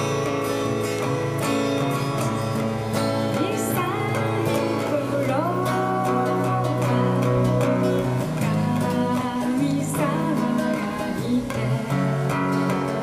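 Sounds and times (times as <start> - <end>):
strummed acoustic guitar: 0.0 - 13.0
person singing: 2.1 - 13.0.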